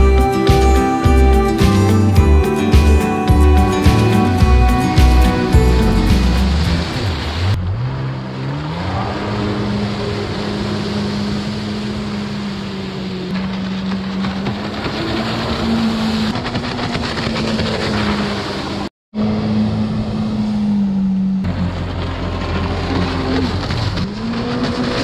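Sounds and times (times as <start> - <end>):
personal watercraft engine: 0.0 - 25.0
rushing water: 0.0 - 25.0
wind: 0.0 - 25.0.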